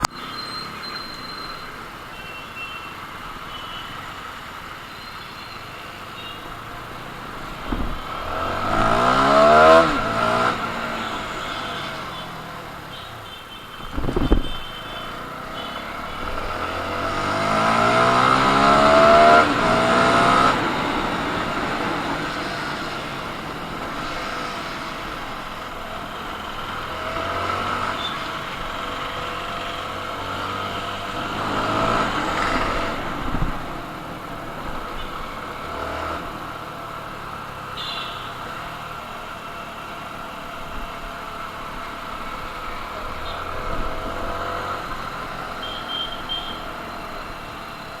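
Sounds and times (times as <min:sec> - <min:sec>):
motorcycle engine revving: 0:06.2 - 0:13.0, 0:13.8 - 0:48.0.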